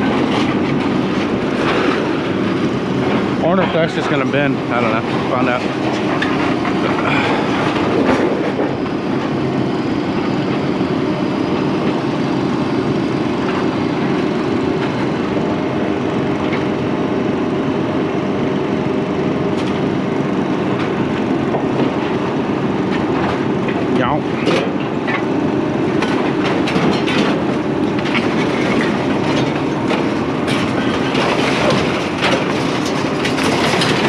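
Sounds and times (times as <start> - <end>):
heavy engine rumbling: 0.0 - 34.0.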